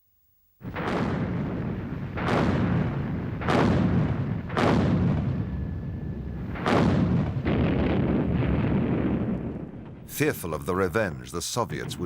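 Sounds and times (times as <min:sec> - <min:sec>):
artillery blasts: 0:00.6 - 0:11.1
low rolling rumble: 0:00.7 - 0:12.0.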